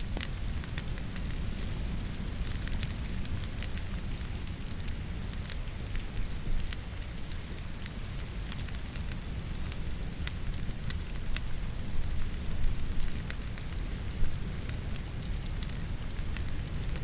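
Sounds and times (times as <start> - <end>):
falling rain hiss: 0.0 - 17.0
fire crackling and popping: 0.0 - 17.0
low fire rumble: 0.0 - 17.0.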